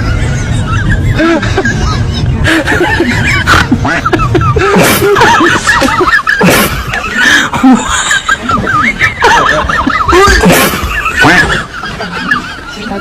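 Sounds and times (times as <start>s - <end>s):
high-pitched snickering laughter: 0.0s - 13.0s.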